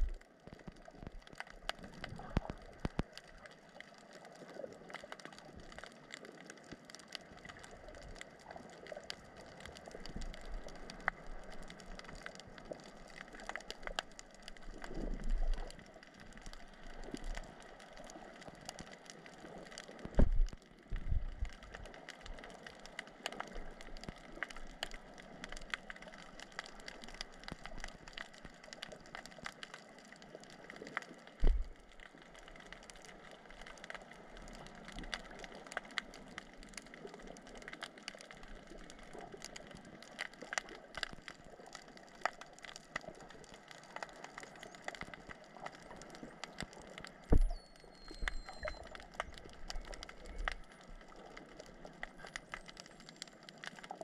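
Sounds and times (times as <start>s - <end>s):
underwater crackle of clicks: 0.0s - 54.0s.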